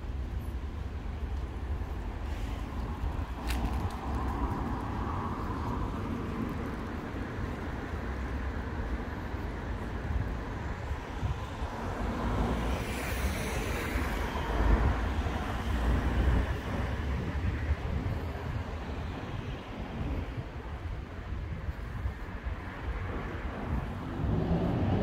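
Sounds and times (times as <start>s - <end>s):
low traffic rumble: 0.0s - 25.0s.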